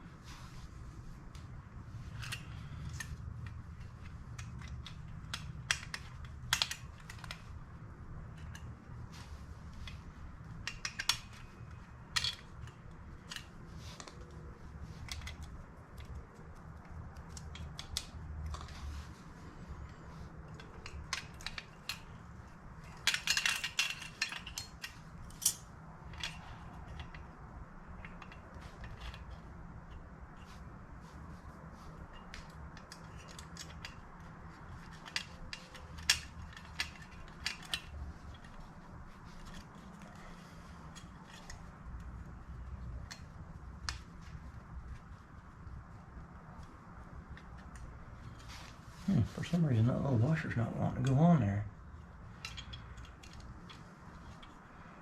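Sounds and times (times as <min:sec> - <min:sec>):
small metal parts clicking: 0:01.3 - 0:30.7, 0:31.8 - 0:45.4, 0:52.0 - 0:54.6.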